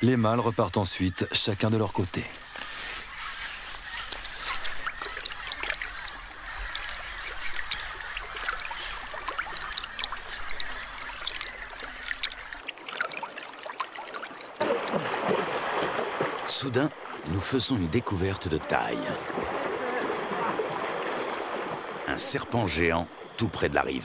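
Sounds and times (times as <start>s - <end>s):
river water trickling and lapping: 0.0s - 24.0s
water splashing: 2.2s - 24.0s.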